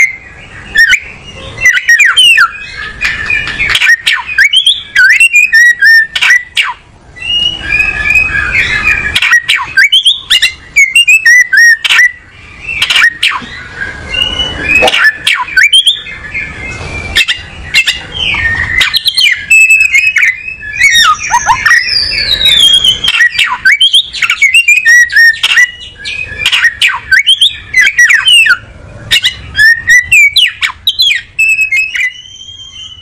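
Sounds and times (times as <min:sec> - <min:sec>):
bird singing whistled notes: 0:00.0 - 0:33.0.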